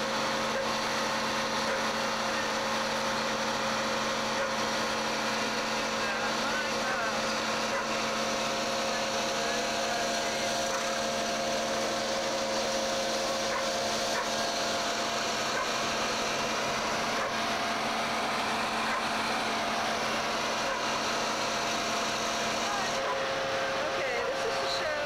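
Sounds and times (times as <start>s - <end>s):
constant mechanical whine: 0.0s - 25.0s
pile-driving machinery drone: 0.0s - 25.0s.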